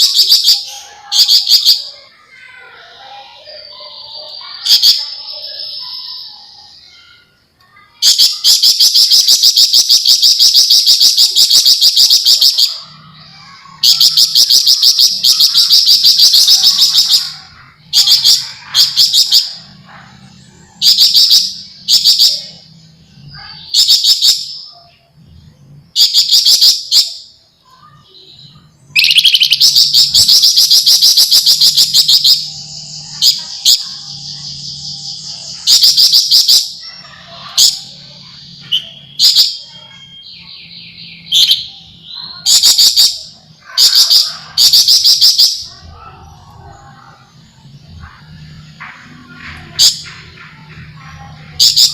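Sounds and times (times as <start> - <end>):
bird singing rattling trills: 0.0 - 51.9.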